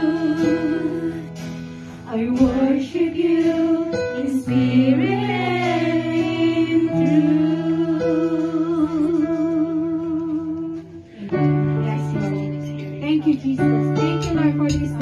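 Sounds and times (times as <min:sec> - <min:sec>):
women singing together: 0:00.0 - 0:13.6
acoustic guitar: 0:00.0 - 0:15.0.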